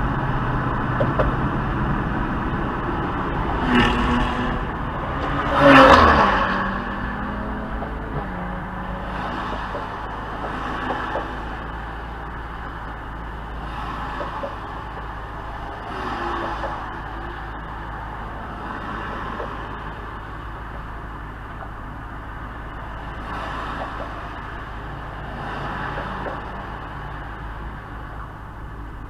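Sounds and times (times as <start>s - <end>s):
engine deep rumble: 0.0s - 29.0s.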